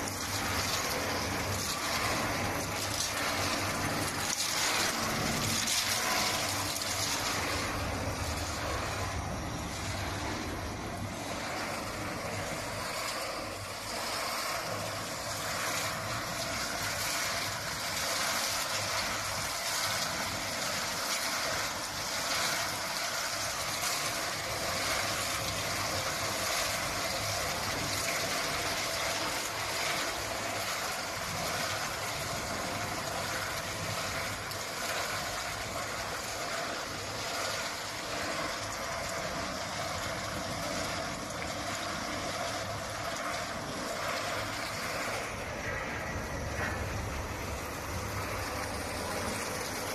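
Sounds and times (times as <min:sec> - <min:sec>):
rotating drum hissing whir: 0:00.0 - 0:49.9.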